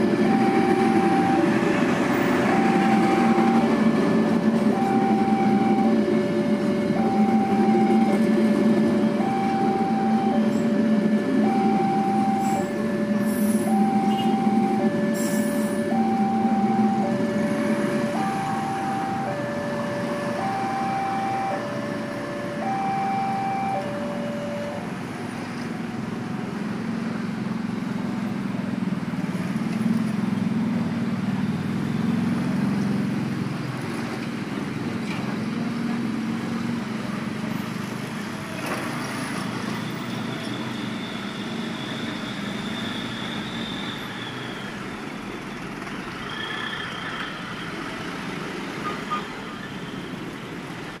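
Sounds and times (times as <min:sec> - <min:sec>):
bus passing: 0:00.0 - 0:51.0
cars passing: 0:00.0 - 0:51.0.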